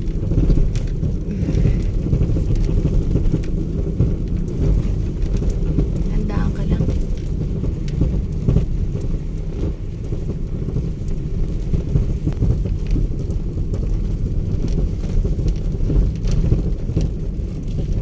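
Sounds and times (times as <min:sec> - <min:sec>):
moving vehicle rumble: 0:00.0 - 0:18.0.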